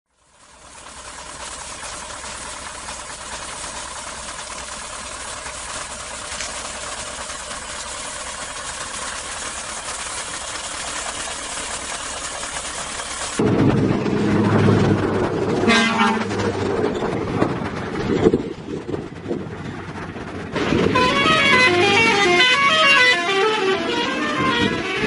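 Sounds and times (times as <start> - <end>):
diesel trucks running: 0.1 - 25.0.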